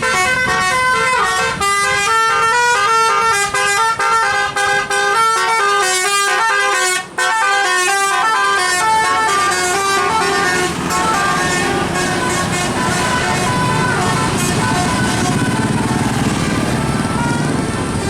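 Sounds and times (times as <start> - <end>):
musical horn tune: 0.0 - 17.7
road noise: 0.0 - 18.0
vehicle engine: 0.0 - 18.0.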